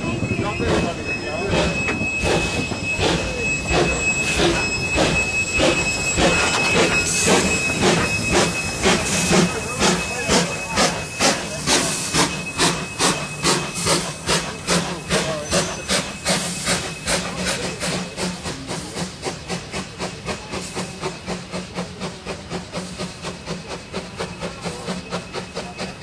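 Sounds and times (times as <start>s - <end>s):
hissing steam: 0.0s - 26.0s
steam locomotive chuffing: 0.0s - 26.0s.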